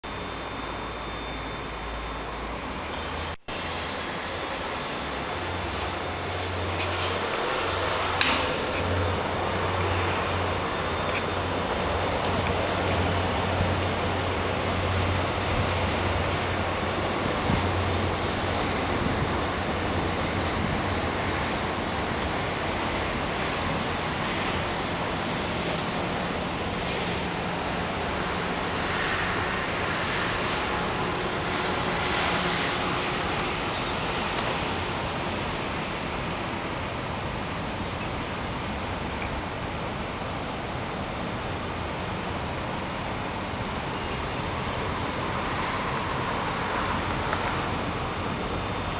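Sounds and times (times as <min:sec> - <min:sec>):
city traffic hum: 0:00.0 - 0:48.9.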